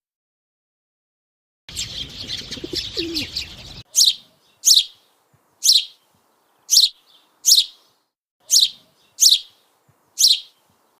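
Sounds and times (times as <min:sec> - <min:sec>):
sparrow chirping: 0:01.7 - 0:11.0.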